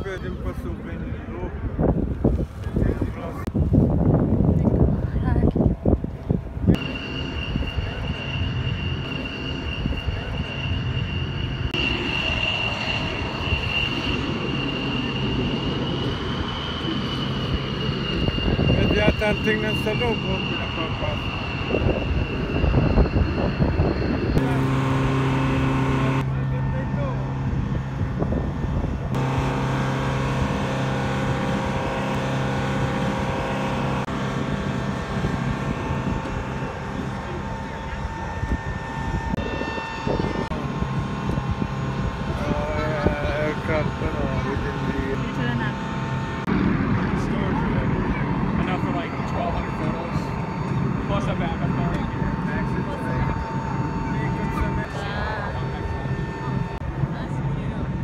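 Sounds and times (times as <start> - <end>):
aircraft engine rumble: 0.0 - 58.0
high-pitched whine: 0.0 - 58.0.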